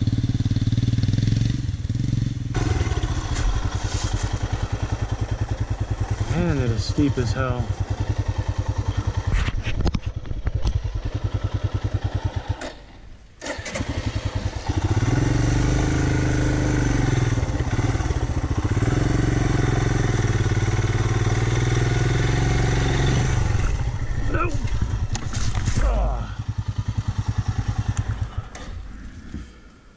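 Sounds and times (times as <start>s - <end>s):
motorcycle engine running: 0.0s - 13.0s, 13.7s - 29.5s.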